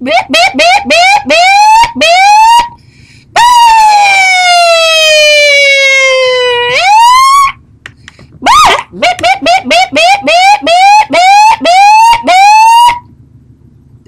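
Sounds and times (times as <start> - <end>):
person imitating a siren: 0.0 - 2.8, 3.4 - 7.6, 8.4 - 13.0.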